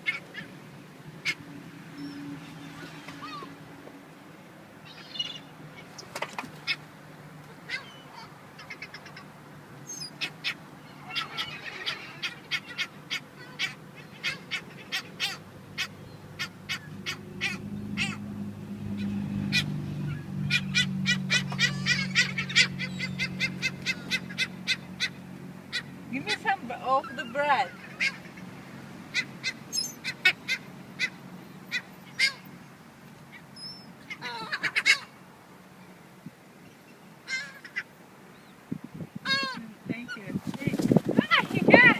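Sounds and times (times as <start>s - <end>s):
seagulls calling: 0.0s - 0.6s, 1.2s - 3.6s, 4.8s - 35.9s, 36.6s - 41.9s.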